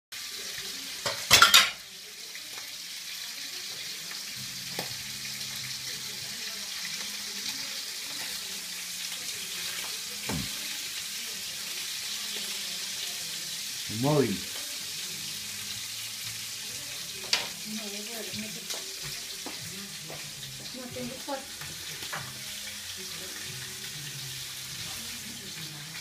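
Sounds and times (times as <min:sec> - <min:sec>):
fish sizzling in oil: 0:00.1 - 0:26.0.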